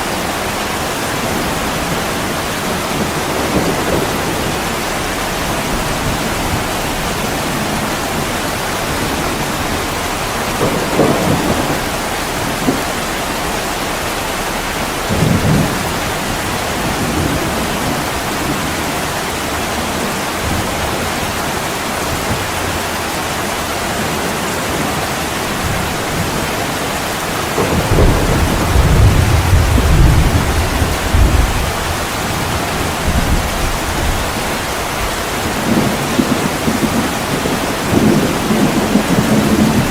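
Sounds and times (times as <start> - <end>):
low thunder rumbles: 0.0 - 22.8, 24.0 - 39.9
heavy rain on a window: 0.0 - 39.9.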